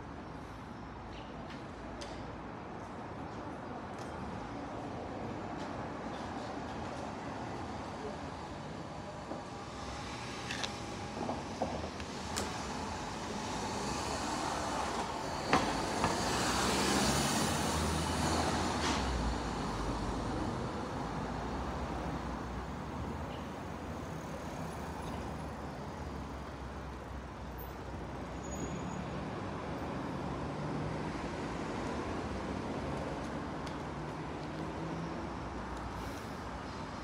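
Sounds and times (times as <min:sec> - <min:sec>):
street traffic: 0:00.0 - 0:37.0.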